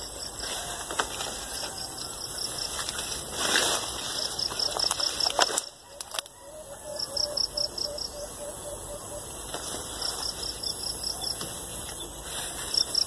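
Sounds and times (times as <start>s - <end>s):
insect trills: 0.0s - 13.0s.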